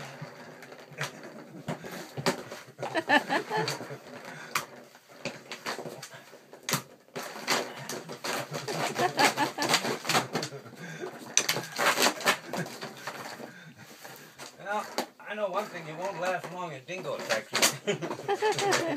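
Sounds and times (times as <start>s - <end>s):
ball clattering around plastic track: 0.0s - 18.9s
claws scraping cardboard: 0.0s - 18.9s.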